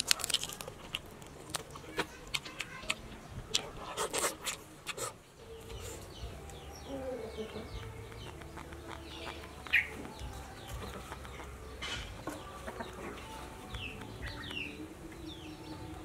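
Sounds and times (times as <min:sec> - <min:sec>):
chickens calling: 0:00.1 - 0:16.0.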